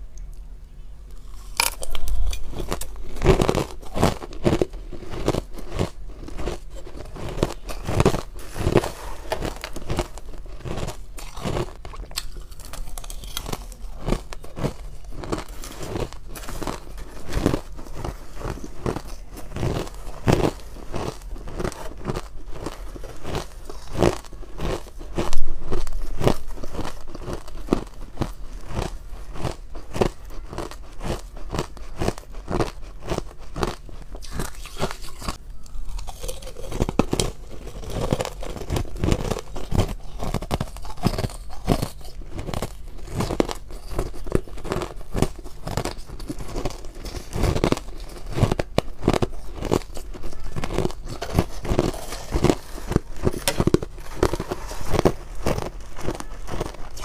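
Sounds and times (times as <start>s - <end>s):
ice crunching in mouth: 1.2s - 57.0s.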